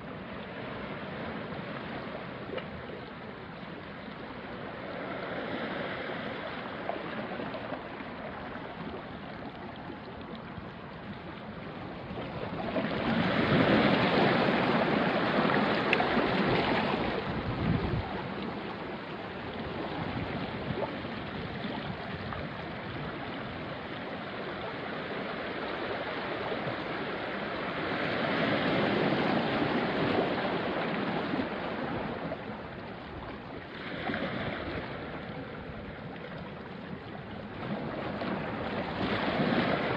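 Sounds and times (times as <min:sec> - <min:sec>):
small waves washing on rocks: 0:04.2 - 0:39.9.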